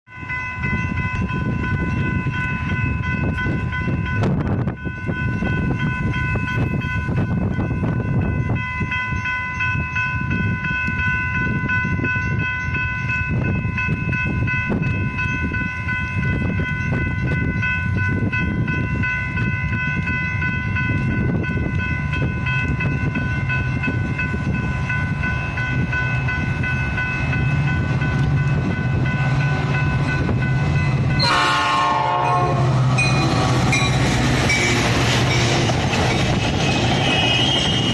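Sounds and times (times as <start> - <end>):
diesel train rumbling past: 0.1 - 37.9.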